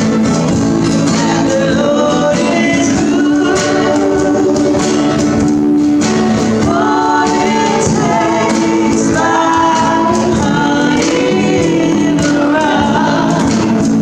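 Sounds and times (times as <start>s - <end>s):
acoustic guitars: 0.0s - 14.0s
women singing together: 1.0s - 5.4s, 6.4s - 14.0s.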